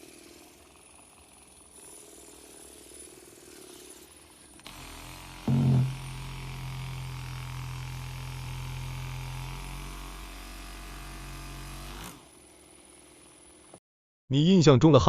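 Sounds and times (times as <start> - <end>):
small electric motor humming: 0.0 - 13.8.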